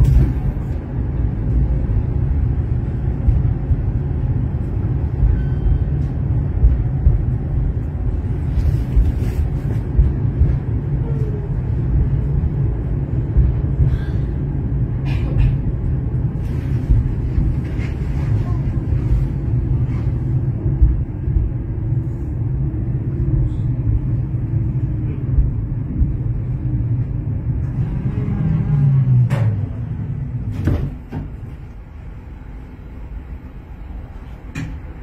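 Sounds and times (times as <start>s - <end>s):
tram wheels rumbling on track: 0.0s - 35.0s.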